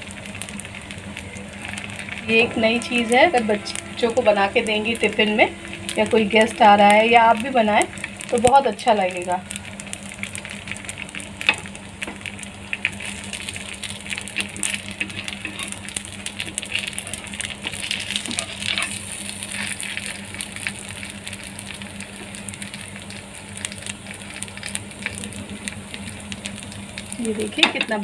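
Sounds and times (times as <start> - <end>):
pancake sizzling in oil: 0.0 - 28.0
steady low hum: 0.0 - 28.0.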